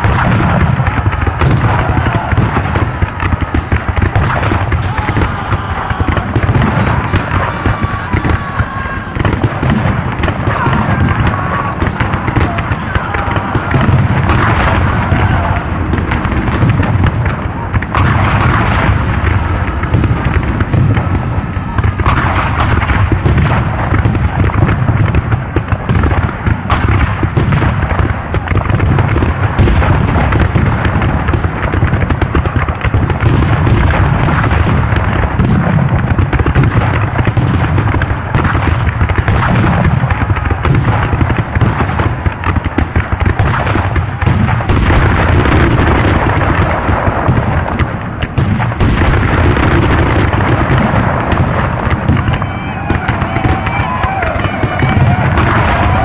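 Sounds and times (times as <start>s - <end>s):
artillery booms: 0.0s - 56.0s
massed gunfire crackling: 0.0s - 56.0s.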